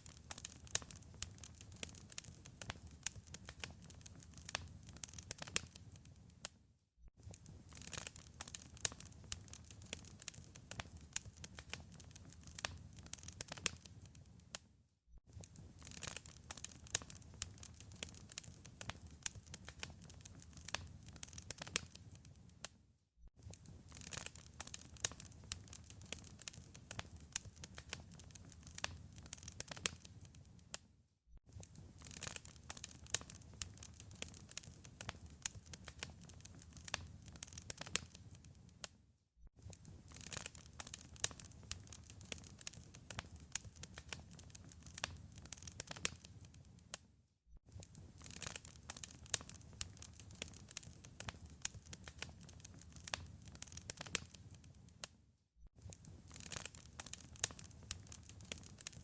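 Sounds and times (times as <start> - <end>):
wood fire crackling: 0.0 - 6.5, 7.2 - 14.6, 15.3 - 22.7, 23.4 - 30.8, 31.6 - 38.9, 39.6 - 47.0, 47.7 - 55.1, 55.8 - 59.0.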